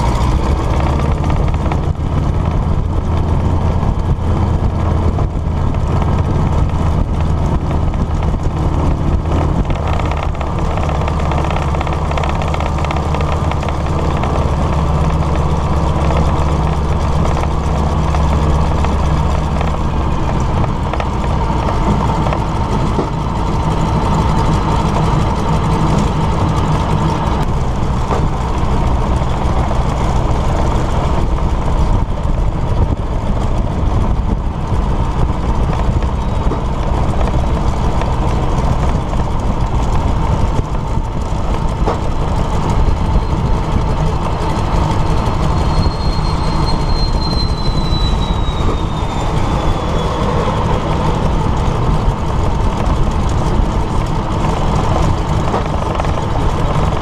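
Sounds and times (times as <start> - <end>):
cockpit wind noise: 0.0 - 57.0
radial aircraft engine running: 0.0 - 57.0.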